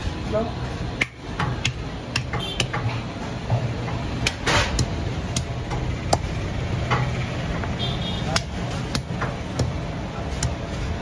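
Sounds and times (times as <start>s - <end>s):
cleaver chopping meat and bone: 0.9s - 7.2s, 8.2s - 11.0s.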